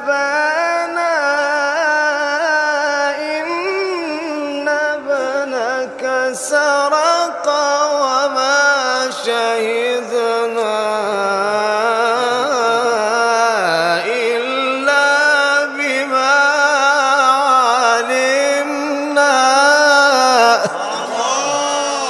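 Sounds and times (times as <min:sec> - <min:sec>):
man chanting melodically: 0:00.0 - 0:22.0.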